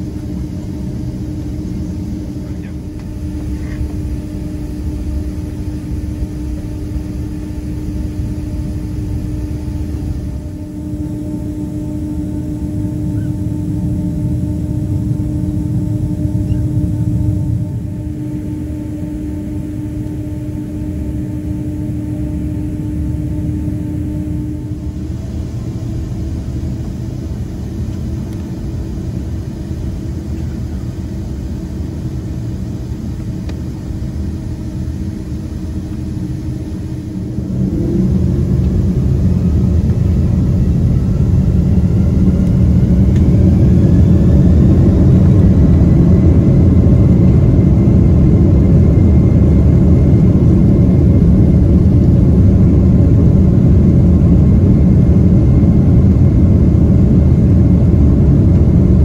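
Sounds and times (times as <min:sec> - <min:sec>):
jet engines spooling up: 0:00.0 - 0:30.9, 0:31.8 - 0:59.0.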